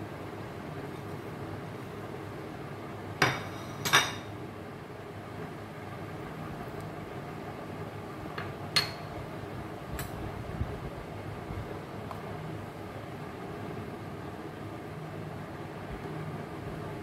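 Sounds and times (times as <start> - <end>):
kitchen room hum: 0.0 - 17.0.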